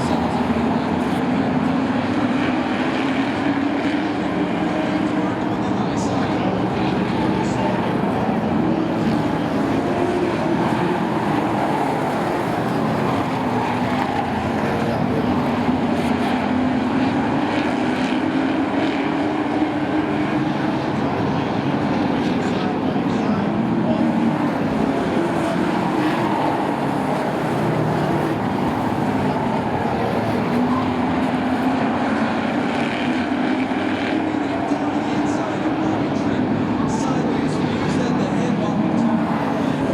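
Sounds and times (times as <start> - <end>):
race truck engines droning: 0.0 - 39.9.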